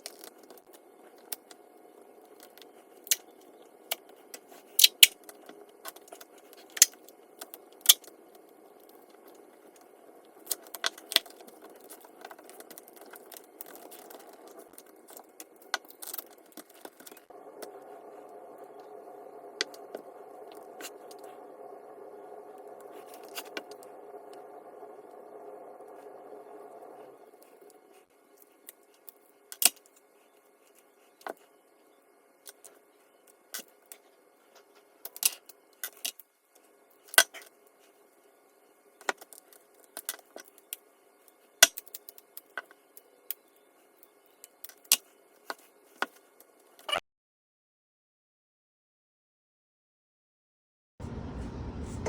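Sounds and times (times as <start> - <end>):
steady hum: 0.0 - 46.8, 51.0 - 52.0.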